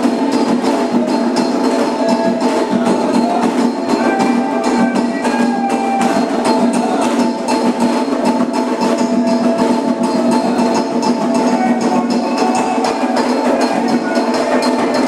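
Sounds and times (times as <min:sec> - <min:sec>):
fast dense percussion: 0:00.0 - 0:15.0
steady held tones: 0:00.0 - 0:15.0.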